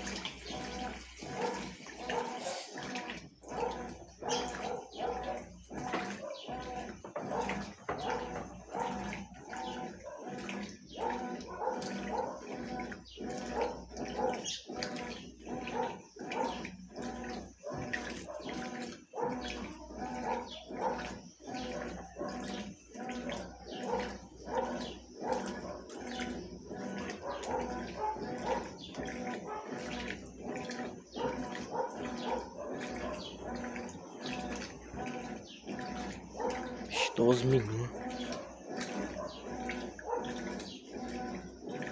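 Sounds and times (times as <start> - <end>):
washing machine motor hum: 0.0 - 41.9
water churning: 0.0 - 41.9.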